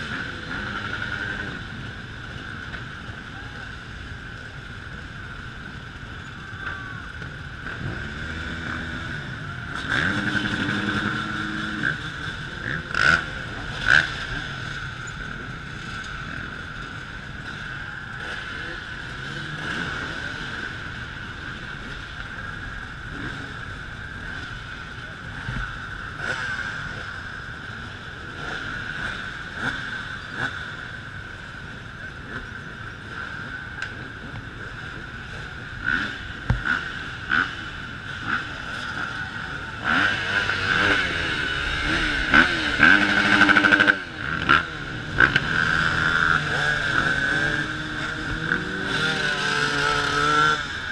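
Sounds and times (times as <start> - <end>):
motorbike engines revving: 0.0 - 50.9.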